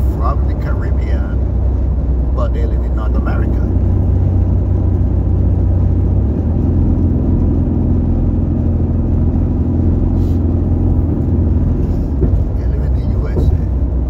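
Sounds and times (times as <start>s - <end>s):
car engine drone: 0.0s - 14.0s
road rumble: 0.0s - 14.0s
steady engine hum: 0.0s - 14.0s.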